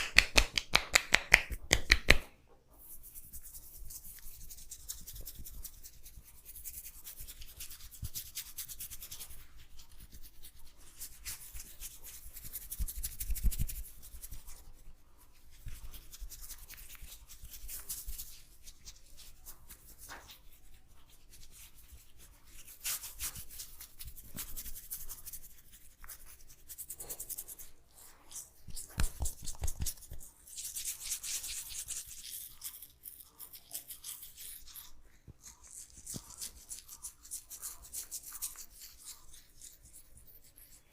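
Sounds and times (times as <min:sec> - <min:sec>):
fingers rubbing oily hair: 0:00.0 - 0:40.9.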